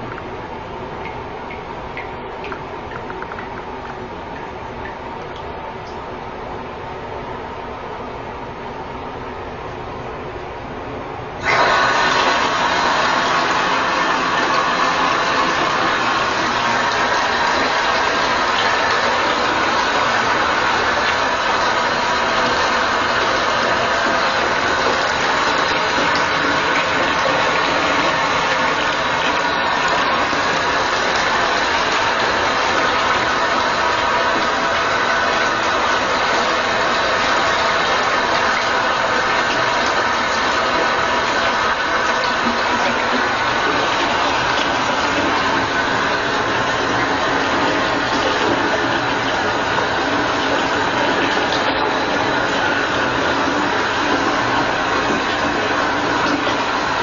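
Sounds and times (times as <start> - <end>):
running water: 0.0 - 6.1, 11.4 - 57.0.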